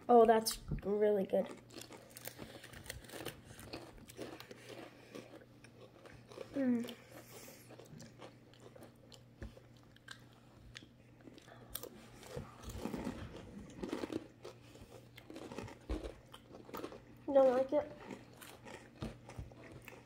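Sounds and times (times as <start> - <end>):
crispy snack crunching: 1.3 - 20.0.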